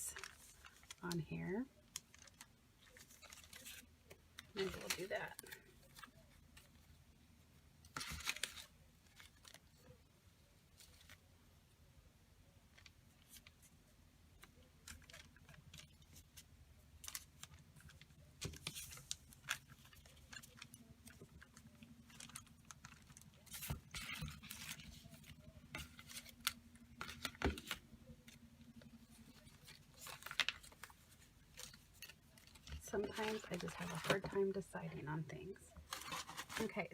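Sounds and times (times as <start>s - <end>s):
paper rustling and shuffling: 0.1s - 1.2s, 1.8s - 7.0s, 7.8s - 11.3s, 14.4s - 34.7s, 35.7s - 36.9s.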